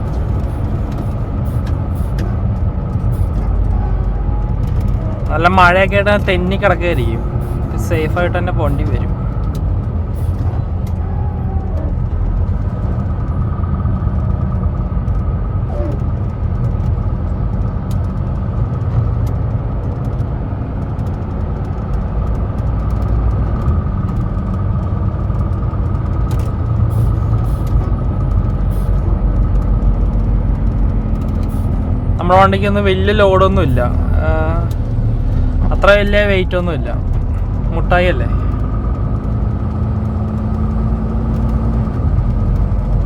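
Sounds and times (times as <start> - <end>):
truck engine and road rumble: 0.0 - 43.0.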